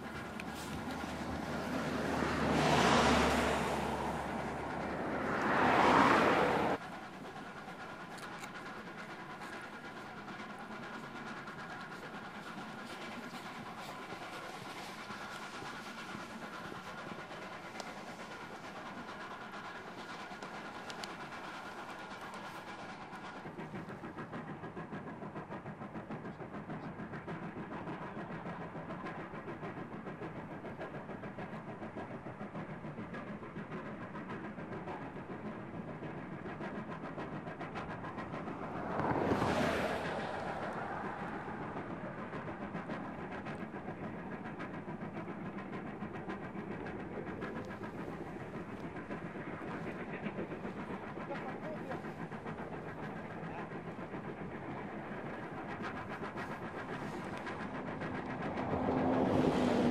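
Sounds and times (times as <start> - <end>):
distant steam locomotive chuffing: 0.0 - 59.9.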